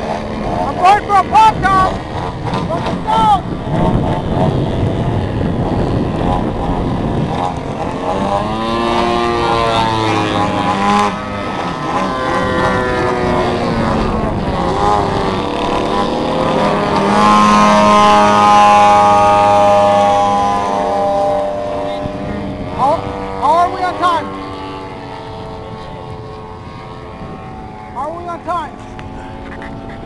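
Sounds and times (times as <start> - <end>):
model plane engine in flight: 0.0 - 30.0.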